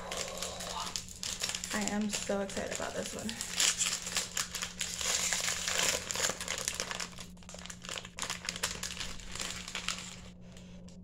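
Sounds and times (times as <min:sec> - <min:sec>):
plastic wrapper crinkling: 0:00.0 - 0:10.8.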